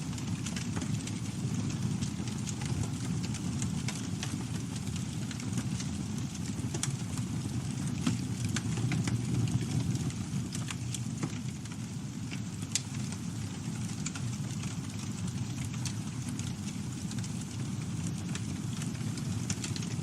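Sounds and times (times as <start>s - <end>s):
burning wood crackling and popping: 0.0s - 20.0s
campfire flames rumbling: 0.0s - 20.0s.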